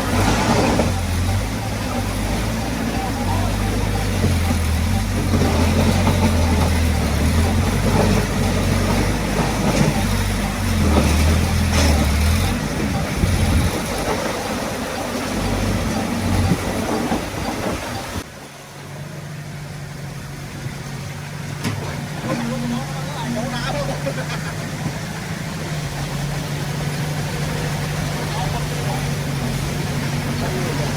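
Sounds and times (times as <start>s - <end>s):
heavy diesel engine drone: 0.0s - 30.9s.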